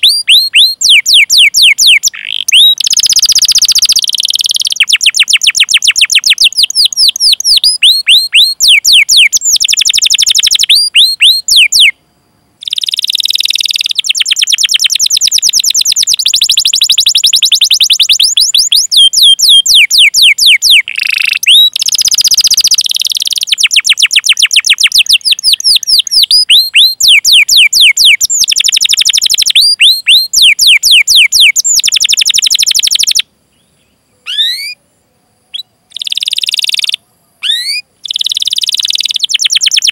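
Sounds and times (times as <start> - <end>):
canary singing trills: 0.0 - 12.0, 12.6 - 39.9.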